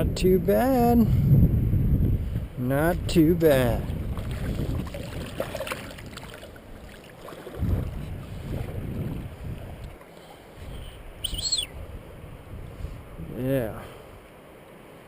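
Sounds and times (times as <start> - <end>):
wind rumbling on microphone: 0.0 - 10.0, 10.6 - 14.3.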